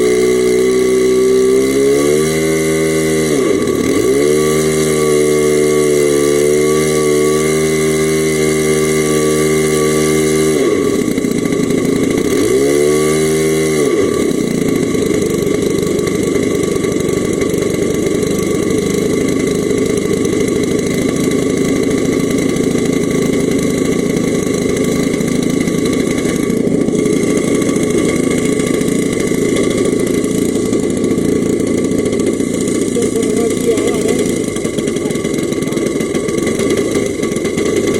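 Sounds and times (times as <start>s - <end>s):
model plane engine droning: 0.0s - 37.9s.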